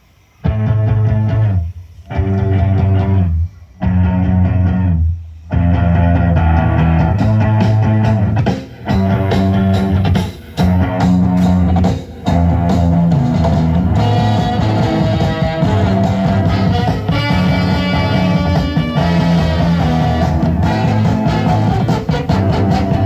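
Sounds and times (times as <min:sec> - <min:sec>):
rock music with guitar and drums: 0:00.4 - 0:23.0.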